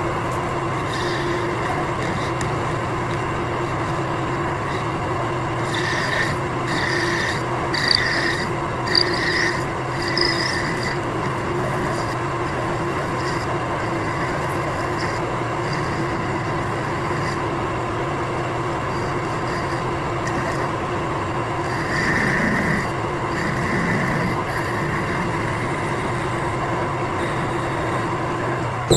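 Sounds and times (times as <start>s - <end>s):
metal lathe humming and whining: 0.0s - 28.9s.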